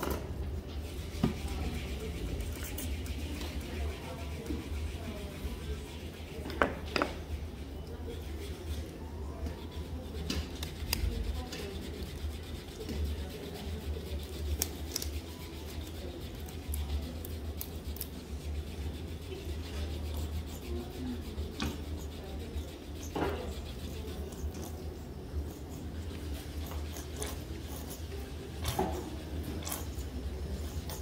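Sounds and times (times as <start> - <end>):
gloved hands rubbing and rustling: 0.6 - 31.0.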